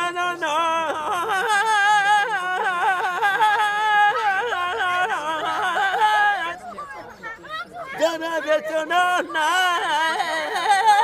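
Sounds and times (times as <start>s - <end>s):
man singing unaccompanied: 0.0s - 6.9s, 7.8s - 11.0s.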